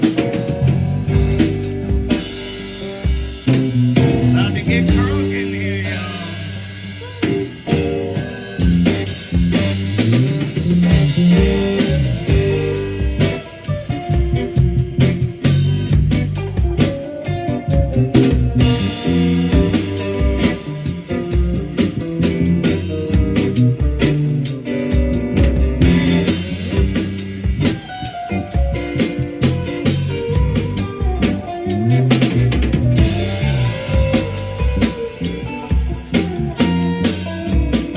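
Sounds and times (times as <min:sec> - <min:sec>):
bass line: 0:00.0 - 0:37.9
drum kit beat: 0:00.0 - 0:37.9
guitar: 0:00.0 - 0:37.9
rock band playing: 0:00.0 - 0:37.9.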